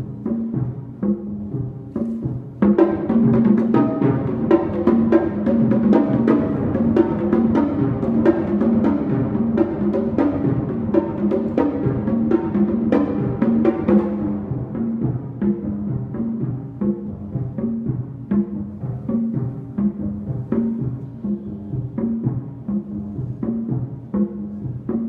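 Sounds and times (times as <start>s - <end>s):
tuned drums played fast: 0.0s - 25.0s.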